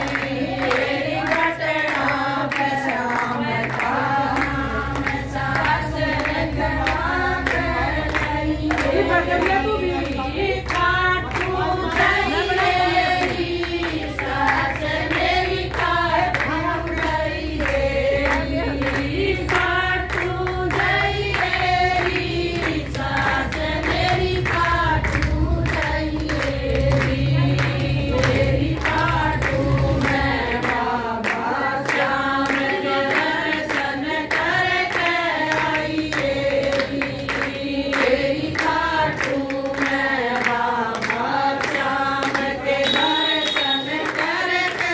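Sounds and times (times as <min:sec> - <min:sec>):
rhythmic hand clapping: 0:00.0 - 0:44.9
women singing in unison: 0:00.0 - 0:44.9.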